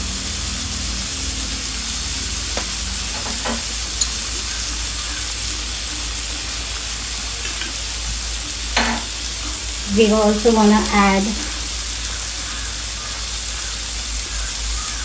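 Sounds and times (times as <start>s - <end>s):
sauce sizzling and bubbling: 0.0s - 15.0s.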